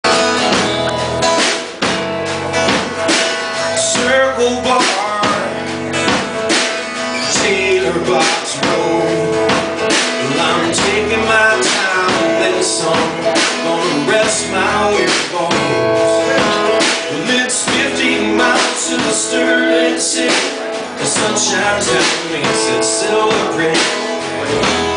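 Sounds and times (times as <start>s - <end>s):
guitars: 0.0s - 24.9s
steady drum beat: 0.0s - 24.9s.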